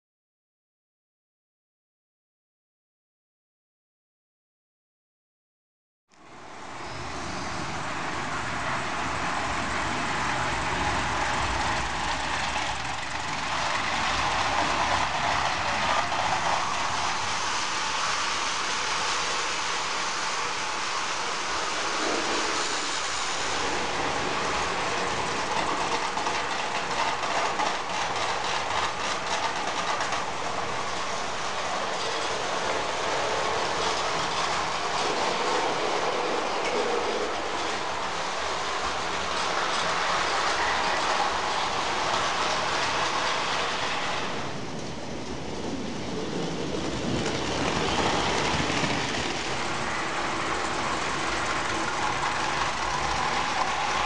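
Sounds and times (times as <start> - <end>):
toy train rattling on track: 9.4 - 45.3, 46.3 - 54.0.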